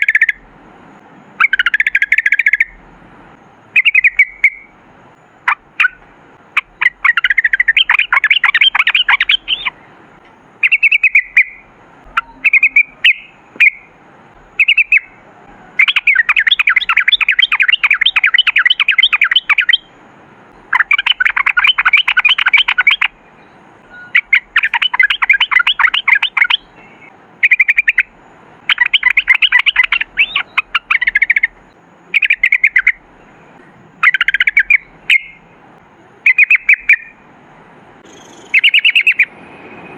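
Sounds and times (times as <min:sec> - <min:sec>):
bird singing rattling trills: 0:00.0 - 0:00.4, 0:01.3 - 0:02.8, 0:03.6 - 0:20.0, 0:20.6 - 0:35.7, 0:36.3 - 0:37.2, 0:38.0 - 0:39.3.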